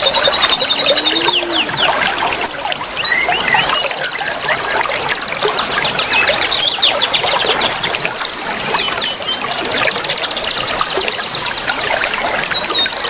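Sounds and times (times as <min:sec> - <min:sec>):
fast high ticking trill: 0:00.0 - 0:12.4
birds chirping: 0:00.0 - 0:13.0
stream water running: 0:00.0 - 0:13.0.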